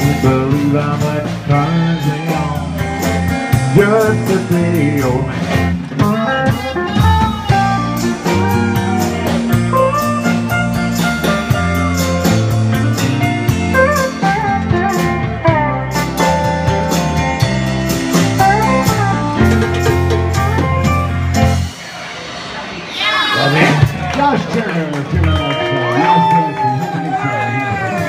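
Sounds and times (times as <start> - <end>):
bass: 0.0 - 28.0
electric lead guitar: 0.0 - 28.0.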